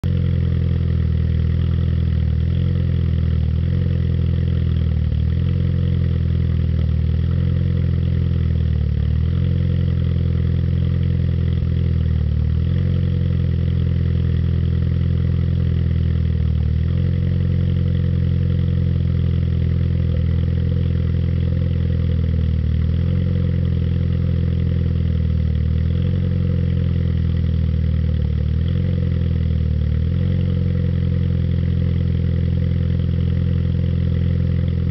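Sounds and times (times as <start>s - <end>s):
car exhaust idling: 0.0s - 34.9s.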